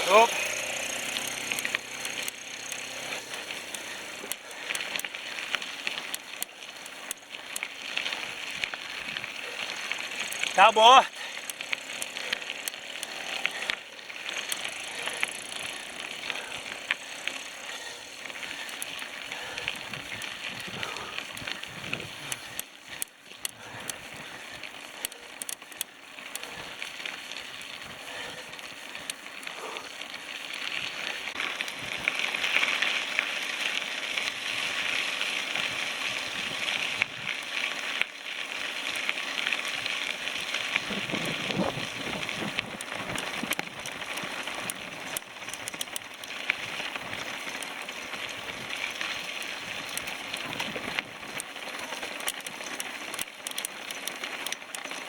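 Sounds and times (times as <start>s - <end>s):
bicycle tyres rolling: 0.0s - 55.0s
bike clicks and rattles: 0.0s - 55.0s.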